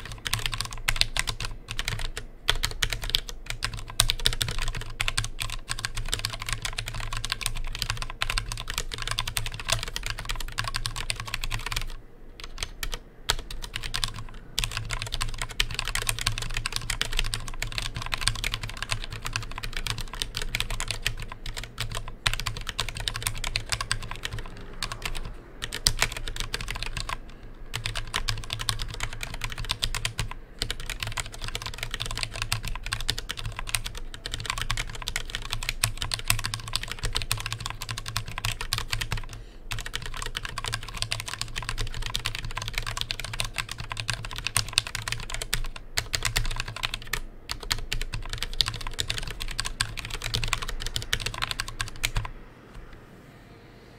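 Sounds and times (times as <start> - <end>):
mechanical keyboard typing: 0.0 - 52.3.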